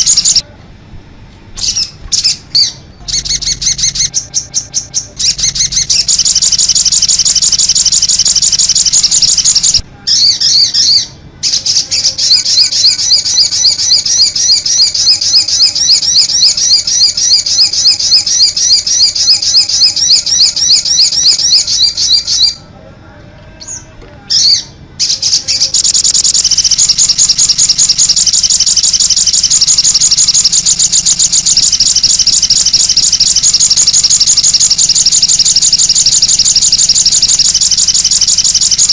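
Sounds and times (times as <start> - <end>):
songbird chirping rapidly: 0.0 - 0.4, 1.6 - 22.6, 23.6 - 38.9.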